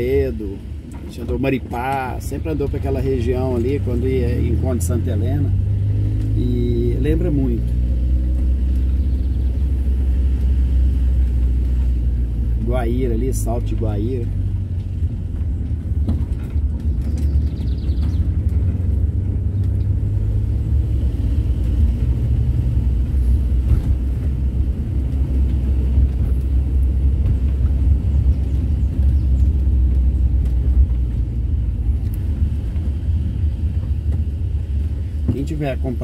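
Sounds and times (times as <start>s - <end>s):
van engine and road rumble: 0.0s - 36.0s.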